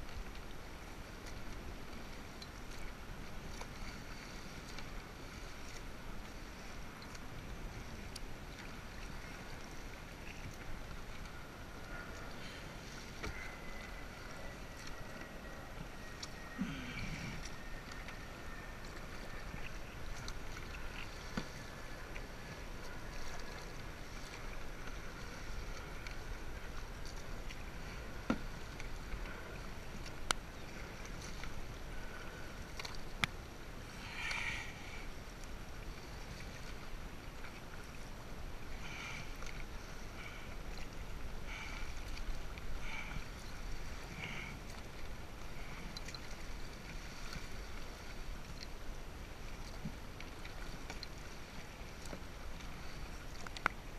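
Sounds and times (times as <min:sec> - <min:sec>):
paddle splashing water: 0:00.0 - 0:53.9.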